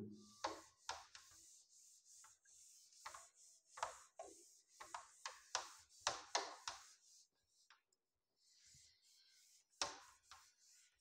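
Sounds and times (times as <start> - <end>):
duster wiping whiteboard: 0.2 - 11.0.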